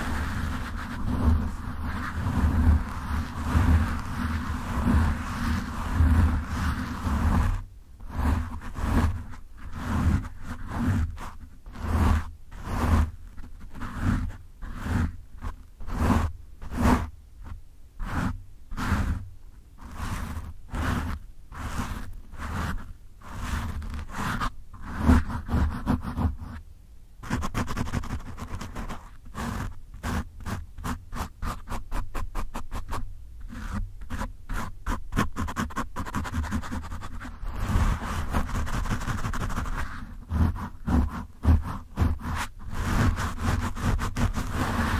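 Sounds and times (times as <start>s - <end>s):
fingertips scratching microphone windscreen: 0.0s - 26.6s, 27.2s - 44.9s.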